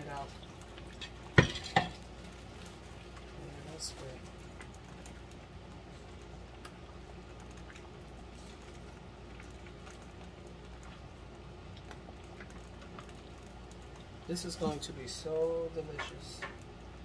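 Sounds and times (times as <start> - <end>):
gravy bubbling with small pops: 0.0 - 17.0.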